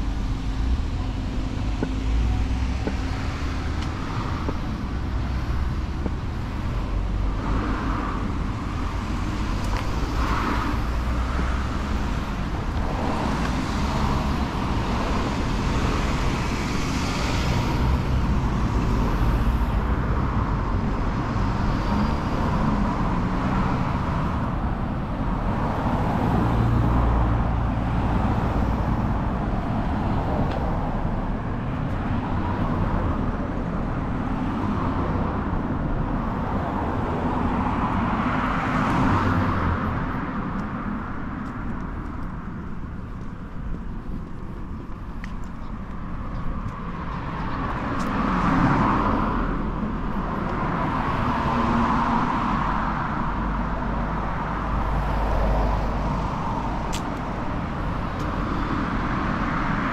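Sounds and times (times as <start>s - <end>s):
road traffic rumble: 0.0s - 59.9s
vehicles passing close by: 0.0s - 59.9s.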